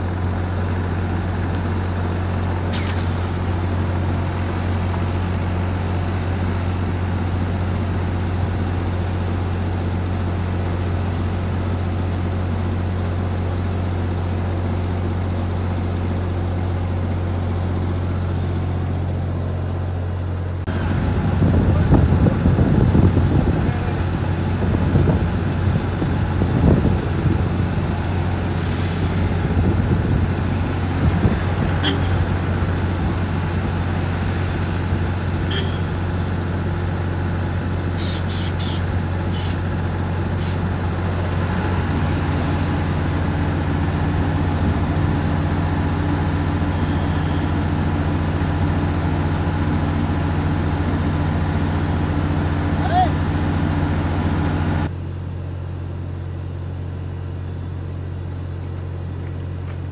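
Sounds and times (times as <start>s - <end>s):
truck engine low hum: 0.0s - 59.9s.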